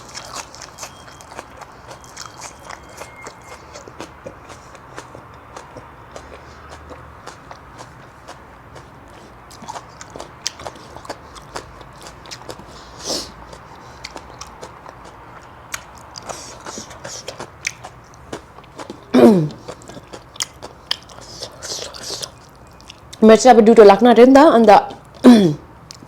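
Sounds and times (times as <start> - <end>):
crunchy chewing of food: 0.0 - 23.2.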